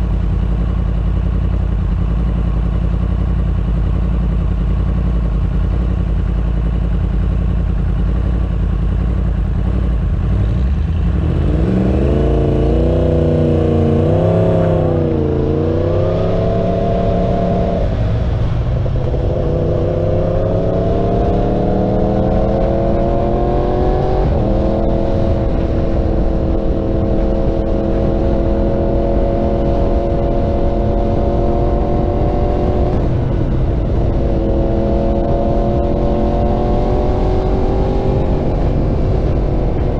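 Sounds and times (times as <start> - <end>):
motorcycle engine idling and accelerating: 0.0 - 39.9.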